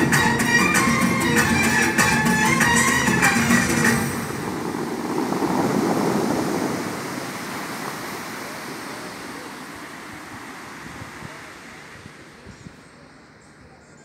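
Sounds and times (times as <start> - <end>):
fountain spray splashing into water: 0.0 - 12.4.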